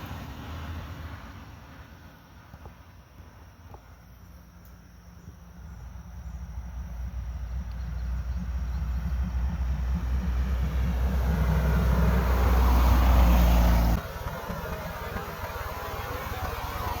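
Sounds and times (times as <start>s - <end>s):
road vehicle approaching: 0.0s - 17.0s.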